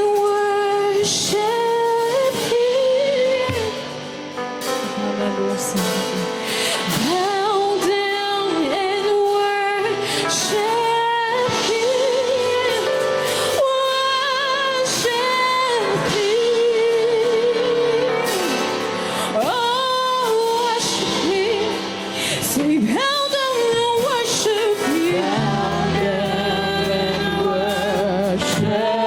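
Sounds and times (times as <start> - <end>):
instrumental backing music: 0.0 - 29.0.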